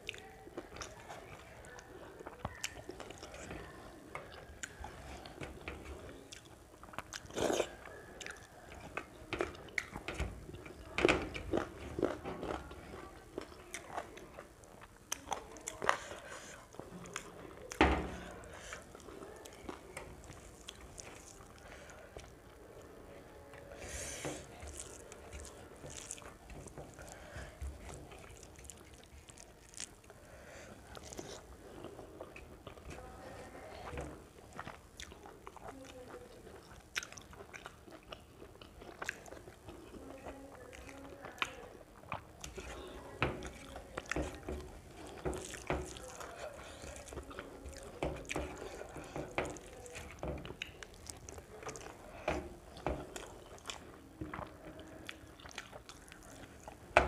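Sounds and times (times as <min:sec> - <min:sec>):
person chewing food: 0:00.0 - 0:22.9, 0:24.0 - 0:57.0.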